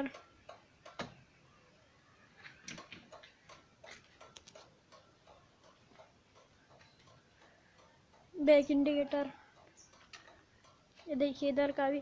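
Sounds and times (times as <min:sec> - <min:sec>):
turn indicator ticking: 0:00.0 - 0:01.2, 0:02.8 - 0:12.0.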